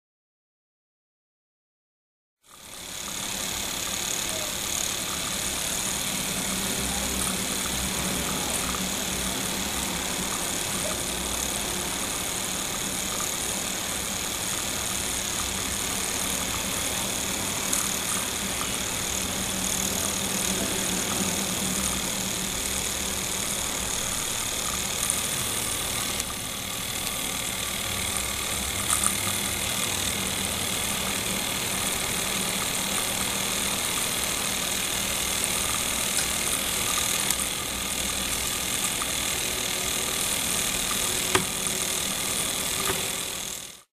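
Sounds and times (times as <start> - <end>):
small steam engine humming: 2.4 - 43.9
torch flame hissing: 2.4 - 43.9.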